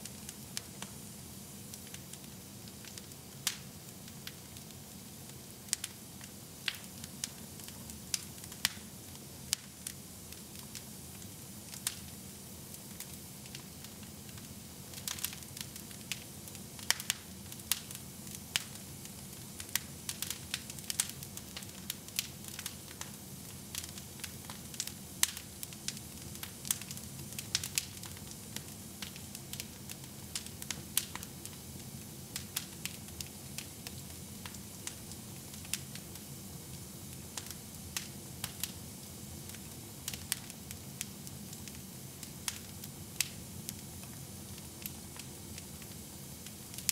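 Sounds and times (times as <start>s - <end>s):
fire crackling and popping: 0.0s - 46.9s
flames hissing and rumbling: 0.0s - 46.9s.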